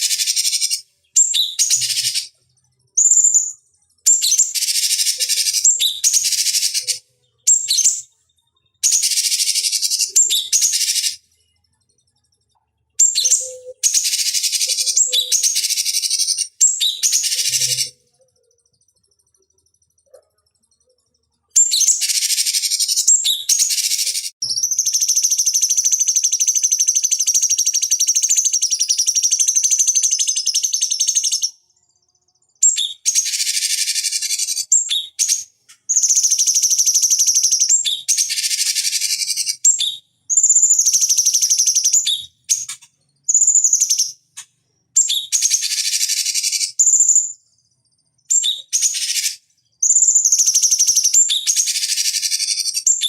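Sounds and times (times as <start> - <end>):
bird singing fast high chattering: 0.0 - 8.1, 8.7 - 11.4, 12.8 - 19.1, 20.0 - 31.6, 32.5 - 47.4, 48.1 - 53.0.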